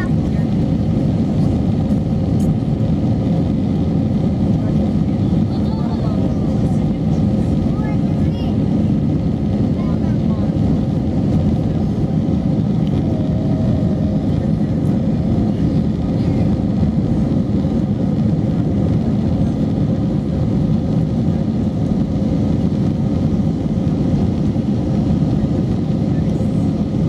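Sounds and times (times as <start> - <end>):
airliner cabin engine rush: 0.0 - 27.0.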